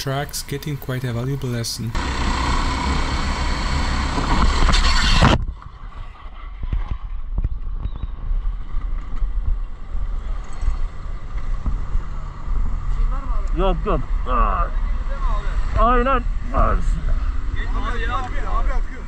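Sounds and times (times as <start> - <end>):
motorcycle low rumble: 0.0 - 19.0.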